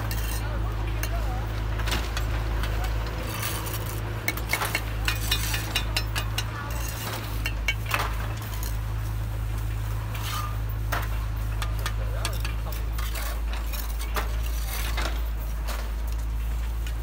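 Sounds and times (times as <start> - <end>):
steady low hum: 0.0 - 17.0
trowels clinking and scraping on bricks: 0.0 - 17.0.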